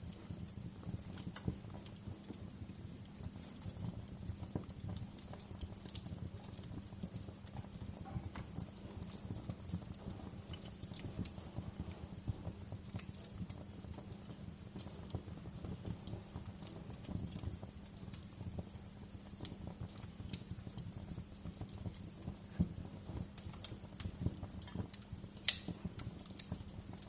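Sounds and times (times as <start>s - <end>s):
low rumble of flame: 0.0s - 27.0s
wood fire pops and snaps: 0.0s - 27.0s.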